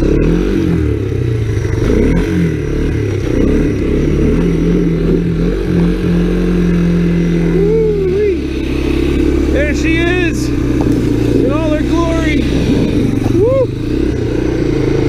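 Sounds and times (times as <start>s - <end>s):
engines revving: 0.0s - 15.0s.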